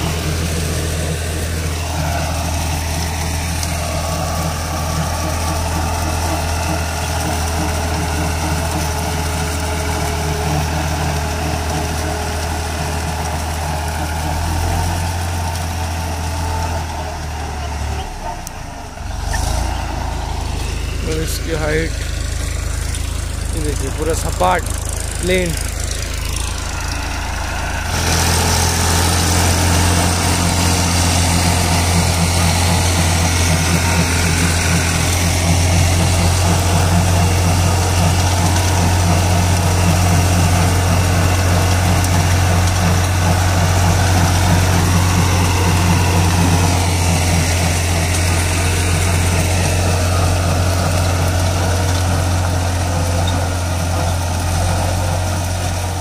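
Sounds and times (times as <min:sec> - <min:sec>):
rotary slasher cutting grass: 0:00.0 - 0:56.0
tractor diesel engine running: 0:00.0 - 0:56.0.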